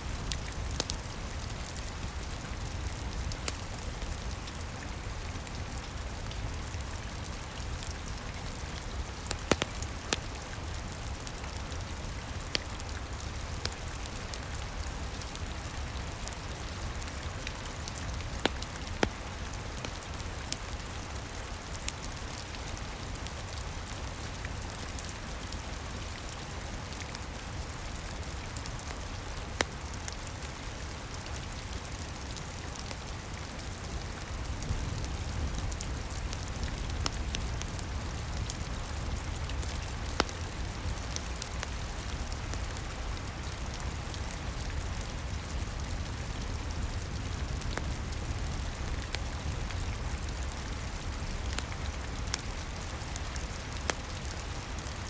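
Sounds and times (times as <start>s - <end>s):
steady rain pattering: 0.0s - 55.0s
wood fire crackling: 0.0s - 55.0s.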